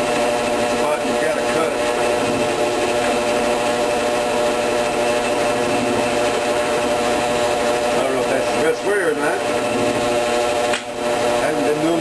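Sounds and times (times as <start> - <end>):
power tool motor humming: 0.0 - 12.0.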